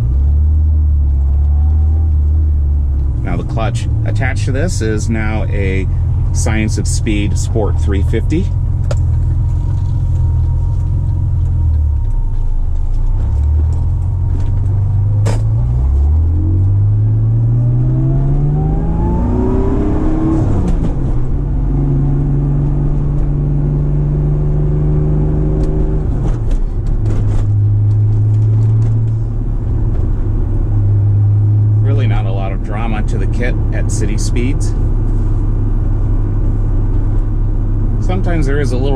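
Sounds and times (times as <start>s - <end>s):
car engine revving in cabin: 0.0s - 38.9s.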